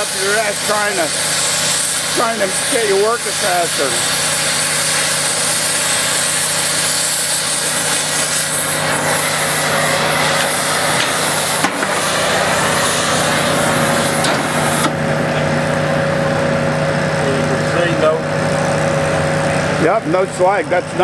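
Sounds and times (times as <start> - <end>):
cutting torch hissing: 0.0 - 21.0
engine-like hum: 0.0 - 21.0.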